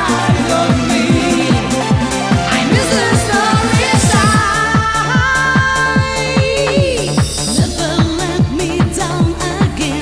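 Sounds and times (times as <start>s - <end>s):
kick-drum beat: 0.3s - 9.9s.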